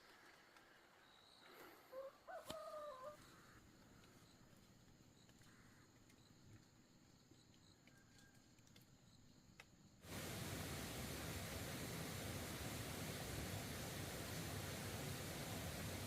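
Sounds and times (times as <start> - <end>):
faint high-pitched insect noise: 0.1 - 16.0.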